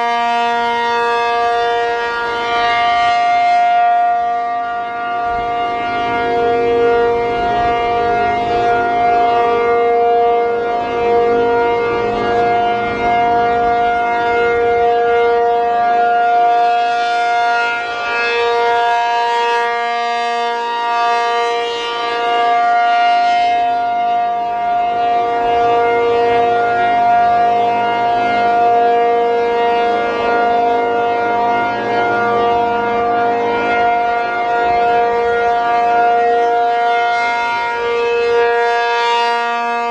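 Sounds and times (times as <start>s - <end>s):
two-tone siren wail: 0.0s - 39.9s.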